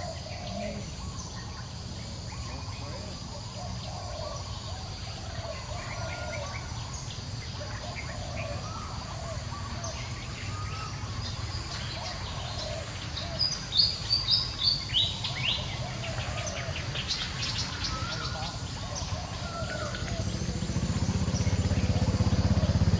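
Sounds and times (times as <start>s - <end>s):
faint background calls: 0.0s - 22.9s
outdoor ambient noise: 0.0s - 22.9s.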